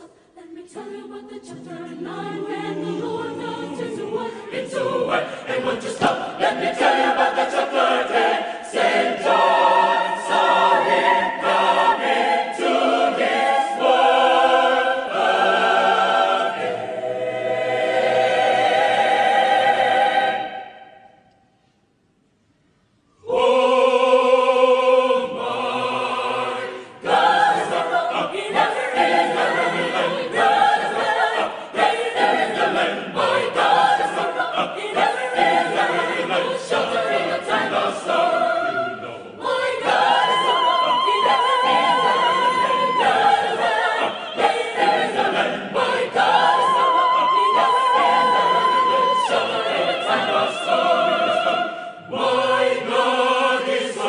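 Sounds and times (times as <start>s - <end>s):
mixed choir singing in harmony: 0.0s - 21.4s, 23.1s - 54.0s.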